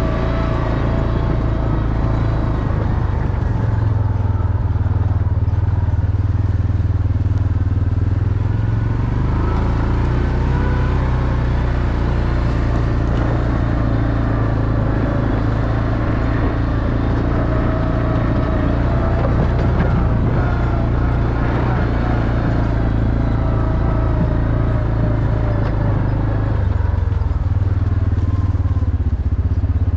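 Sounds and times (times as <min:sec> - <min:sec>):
vehicle engine running under load: 0:00.0 - 0:29.9.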